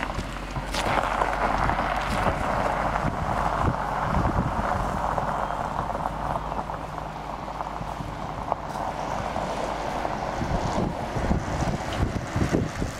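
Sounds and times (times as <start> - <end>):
car engine idling: 0.0 - 12.9
tyres crunching on gravel: 0.0 - 12.9.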